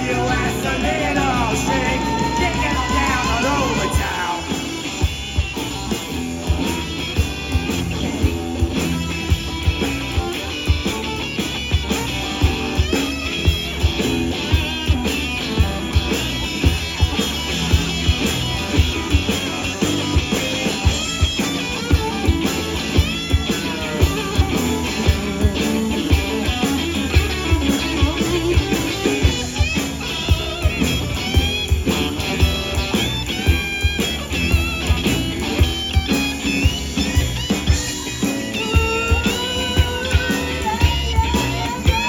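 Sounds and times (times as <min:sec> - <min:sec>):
blues band playing: 0:00.0 - 0:42.0
drums: 0:00.0 - 0:42.0
guitar: 0:00.0 - 0:42.0.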